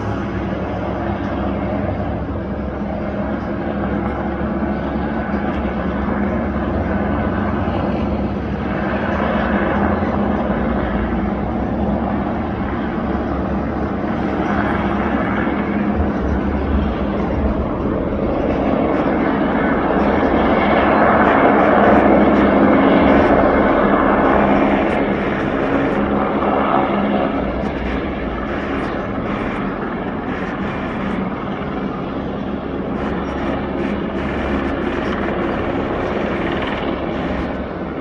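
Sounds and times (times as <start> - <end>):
helicopter engine and rotor: 0.0 - 38.0.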